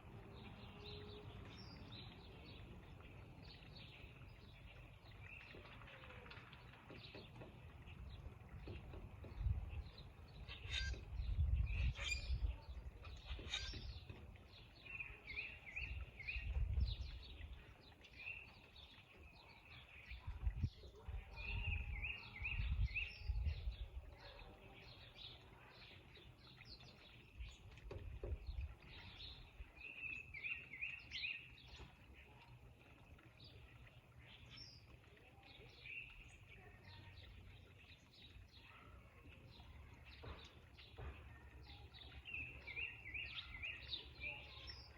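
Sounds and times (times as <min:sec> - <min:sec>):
wild birds chirping: 0:00.0 - 0:44.9.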